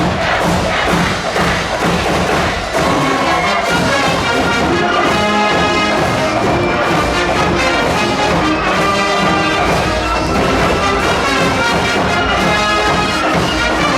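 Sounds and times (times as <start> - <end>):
wind band playing brass music: 0.0 - 13.9.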